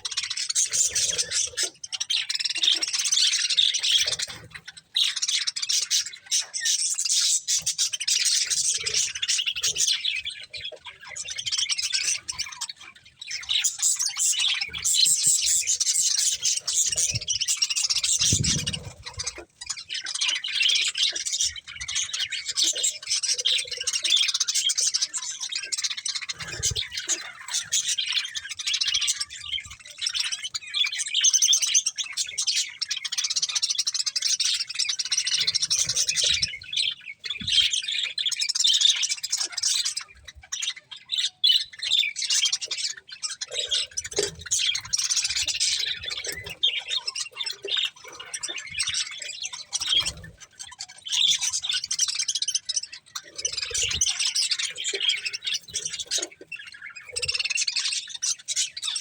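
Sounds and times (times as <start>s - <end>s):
budgerigars chattering: 0.0s - 59.0s.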